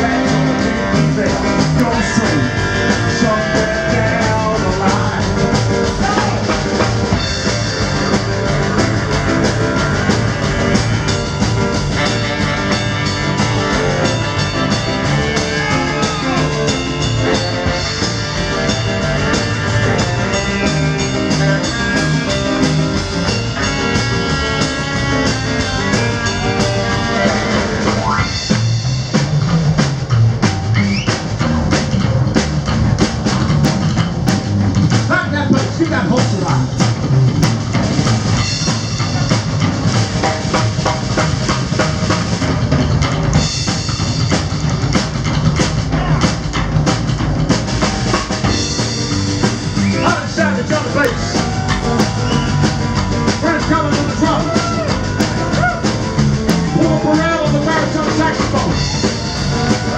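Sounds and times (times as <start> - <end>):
saxophones riffing: 0.0 - 35.0, 35.8 - 59.9
drums: 0.0 - 59.9
piano: 0.0 - 59.9
upright bass: 0.0 - 59.9.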